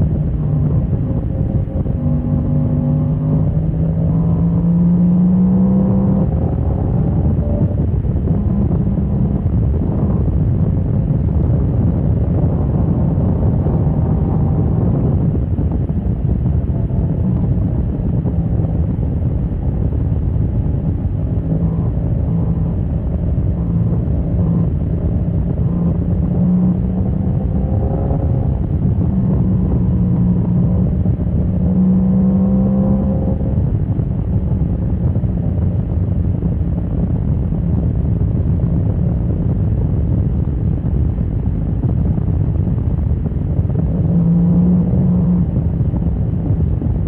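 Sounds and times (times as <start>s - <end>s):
motorcycle engine accelerating: 0.0s - 47.0s
wind rush on microphone: 0.0s - 47.0s.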